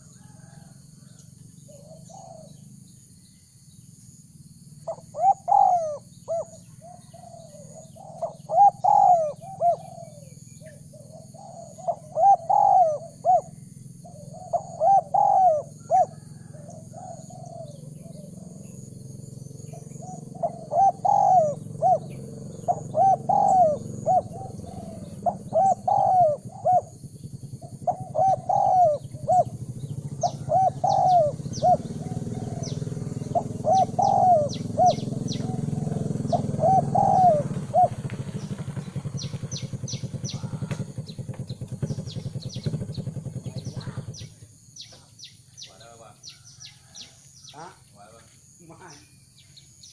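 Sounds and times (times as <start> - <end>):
dove cooing: 0.0 - 2.8, 4.8 - 41.2, 41.8 - 44.3
high insect whine: 0.0 - 49.9.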